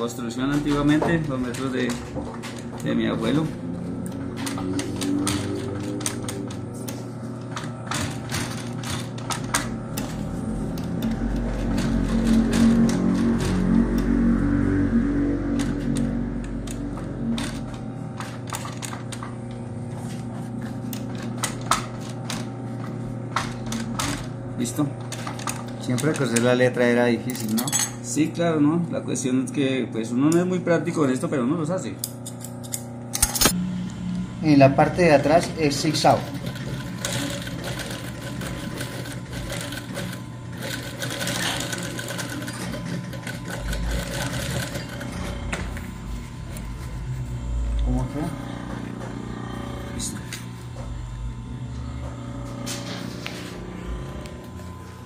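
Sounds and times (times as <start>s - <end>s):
sewing machine motor humming: 0.0s - 27.4s, 33.2s - 55.0s.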